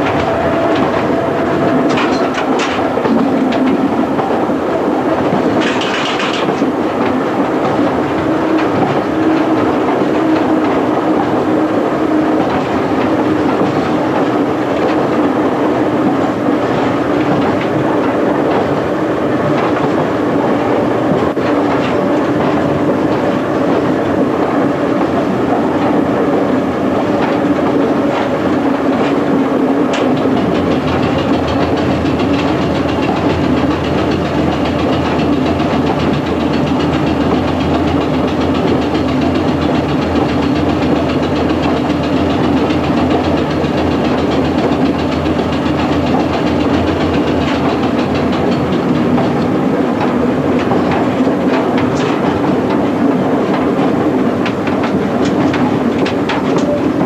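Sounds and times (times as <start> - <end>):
rail joints clickety-clack: 0.0 - 57.0
wheel-on-rail running noise: 0.0 - 57.0.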